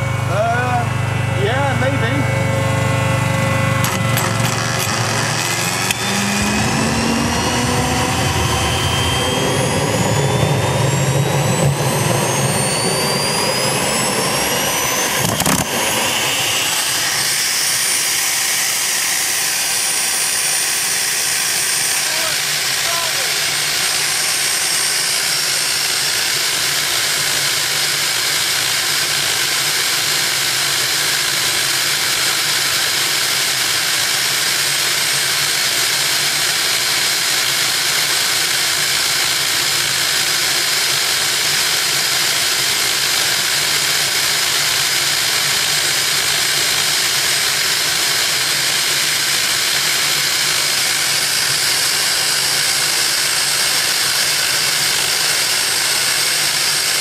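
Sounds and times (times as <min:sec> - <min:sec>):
high engine whine: 0:00.0 - 0:57.0.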